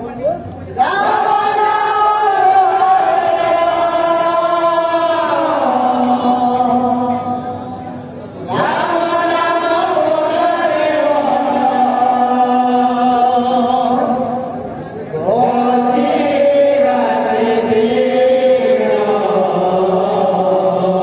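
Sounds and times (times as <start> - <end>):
men chanting together: 0.8 - 7.2, 8.4 - 14.5, 15.1 - 21.0.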